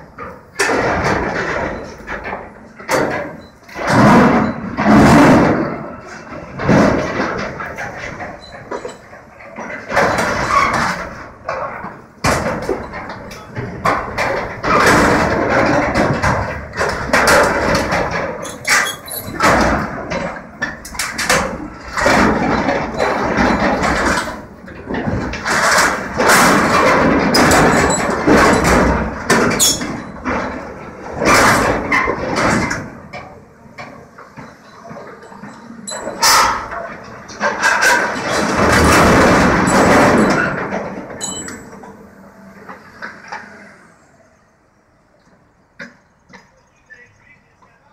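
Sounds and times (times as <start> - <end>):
scrap metal crashing and clanking: 0.0 - 43.5.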